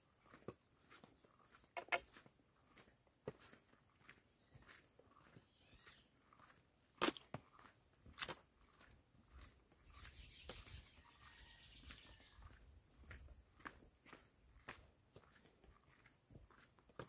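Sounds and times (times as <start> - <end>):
footsteps on concrete: 0.0 - 17.0.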